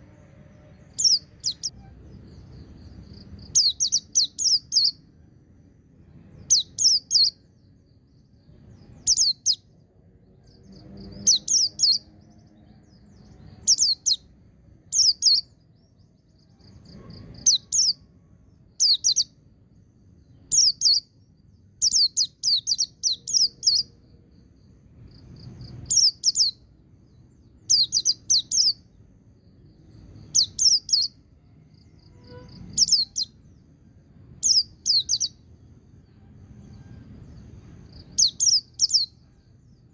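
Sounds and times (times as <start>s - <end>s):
bird chirping in rapid bursts: 0.7s - 5.1s, 6.4s - 19.4s, 20.2s - 24.0s, 25.1s - 31.2s, 32.5s - 35.5s, 37.9s - 39.9s.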